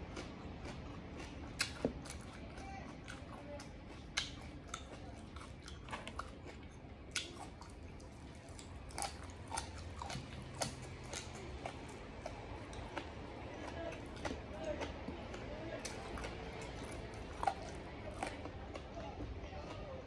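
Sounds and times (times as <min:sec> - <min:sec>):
chewing crunchy food: 0:00.0 - 0:20.0.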